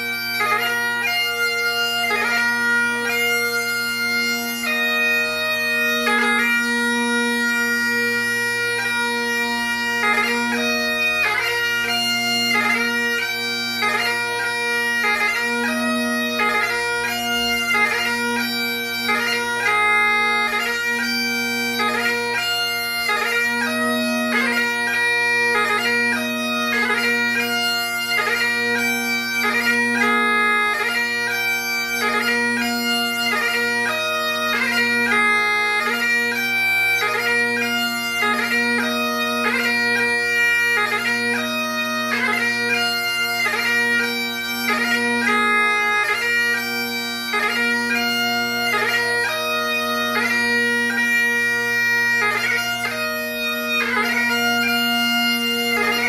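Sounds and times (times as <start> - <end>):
bagpipe playing slow melody: 0.0 - 56.0.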